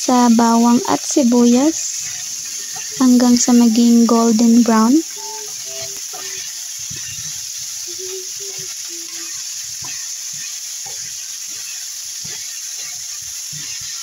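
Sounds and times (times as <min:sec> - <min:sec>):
pork sizzling in a wok: 0:00.0 - 0:14.0
wooden spatula scraping meat: 0:01.4 - 0:14.0.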